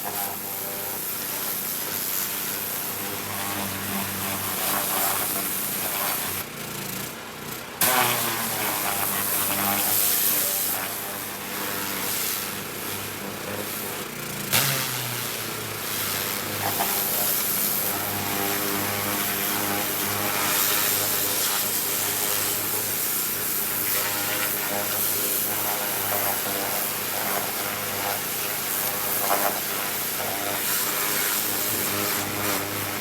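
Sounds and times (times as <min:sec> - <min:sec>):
pressure washer motor hum: 0:00.0 - 0:33.0.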